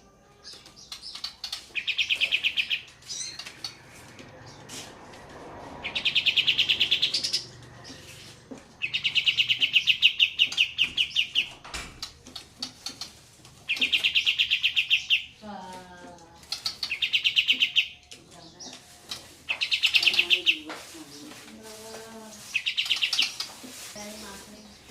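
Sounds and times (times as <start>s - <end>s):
bird trilling song: 0.3s - 4.7s, 5.8s - 24.9s
bird chips: 0.4s - 24.9s.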